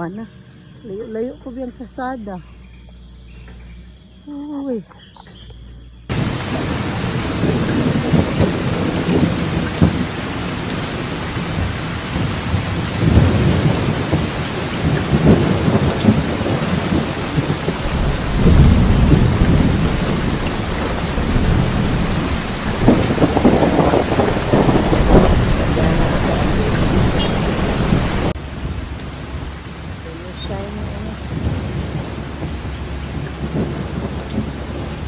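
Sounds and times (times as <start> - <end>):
low rumbles: 0.0 - 35.0
heavy rain hissing: 6.1 - 35.0.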